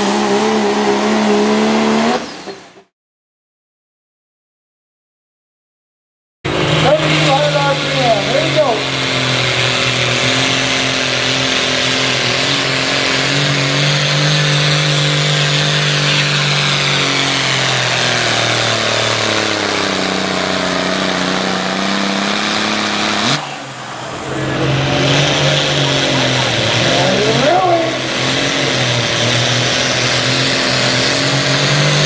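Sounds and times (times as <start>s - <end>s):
tractor engine at full throttle: 0.0s - 2.9s, 6.5s - 32.0s.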